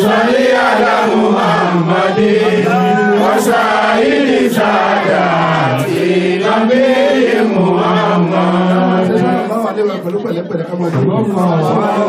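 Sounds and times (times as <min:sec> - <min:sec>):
men chanting through a microphone: 0:00.0 - 0:12.0.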